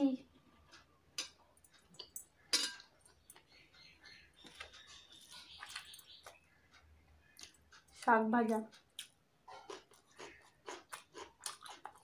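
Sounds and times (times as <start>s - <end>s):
soft chewing: 0.2s - 12.0s.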